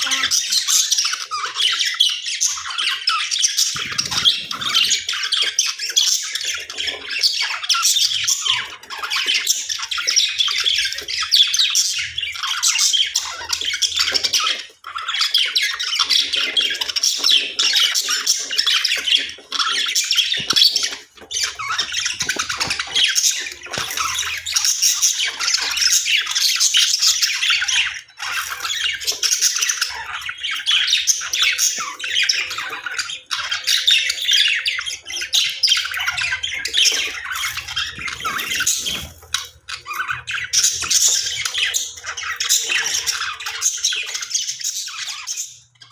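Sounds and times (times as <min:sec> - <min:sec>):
budgerigars warbling and chattering: 0:00.0 - 0:45.9.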